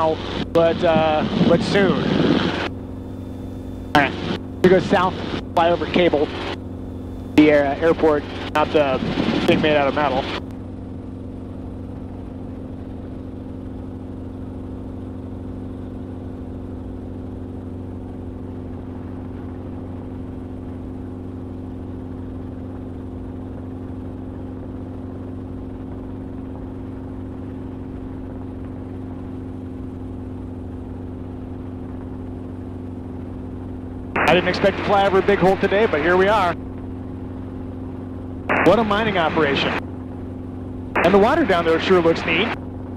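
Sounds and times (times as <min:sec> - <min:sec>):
helicopter engine and rotors droning: 0:00.0 - 0:42.9.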